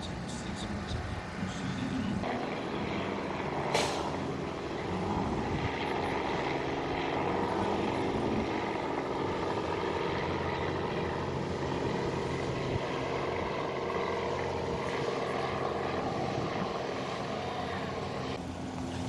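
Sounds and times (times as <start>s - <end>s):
helicopter flying past: 0.0s - 19.0s.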